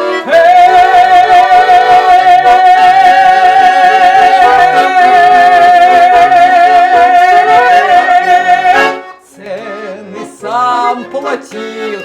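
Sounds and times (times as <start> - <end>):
button accordion folk tune: 0.0 - 12.0.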